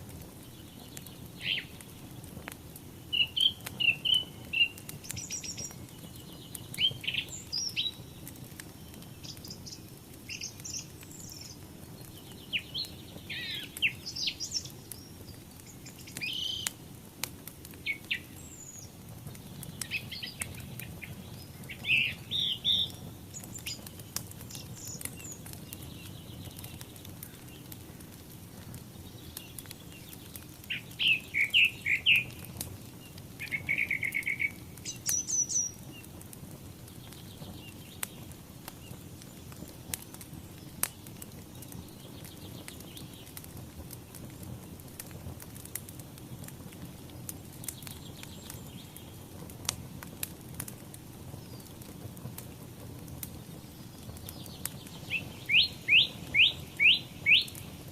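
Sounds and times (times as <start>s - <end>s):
wood fire crackling: 0.0s - 57.9s
songbirds chirping: 0.1s - 57.9s.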